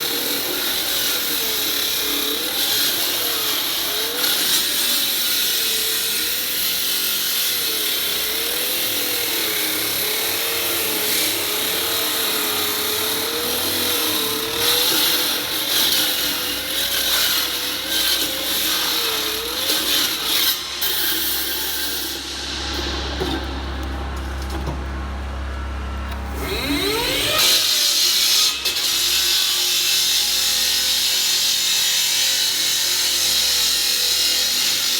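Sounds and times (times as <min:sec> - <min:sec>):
concrete saw cutting concrete: 0:00.0 - 0:24.2, 0:26.2 - 0:34.9.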